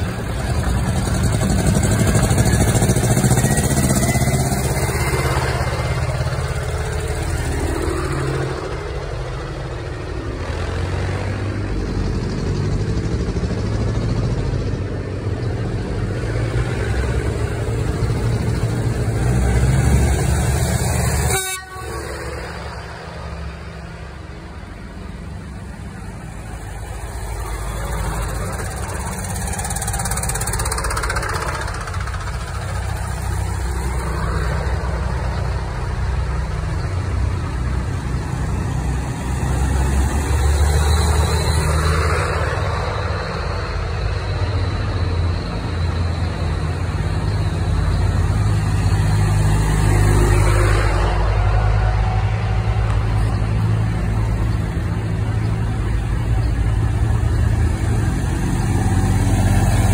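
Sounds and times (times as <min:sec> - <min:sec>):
tractor engines chugging: 0:00.0 - 0:59.9.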